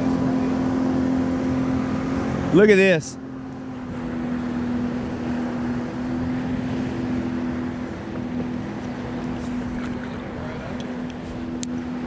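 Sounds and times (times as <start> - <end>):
boat motor humming: 0.0 - 12.0
moving water: 0.0 - 12.0.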